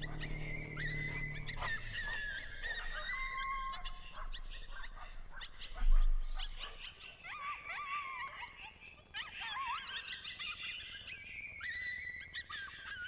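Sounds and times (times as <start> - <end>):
coyotes howling: 0.0 - 13.0
coyotes yipping: 0.0 - 13.0.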